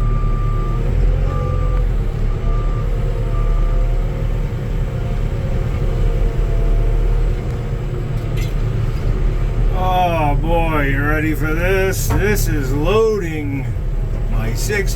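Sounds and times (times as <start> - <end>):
engine running under load: 0.0 - 14.9.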